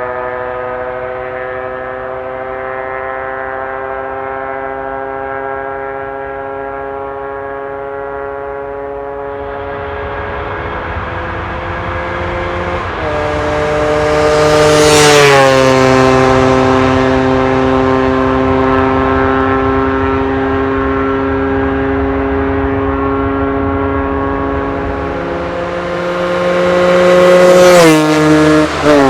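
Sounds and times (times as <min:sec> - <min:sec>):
motorbike two-stroke engine passing: 0:00.0 - 0:29.0.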